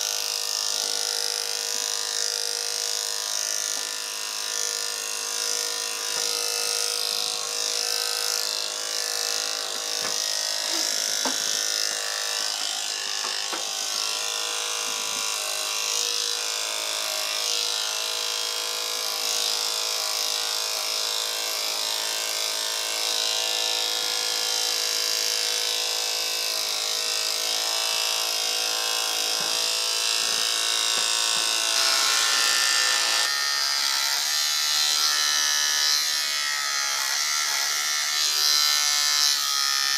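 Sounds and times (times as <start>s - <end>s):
electric clippers buzzing: 0.0s - 39.9s.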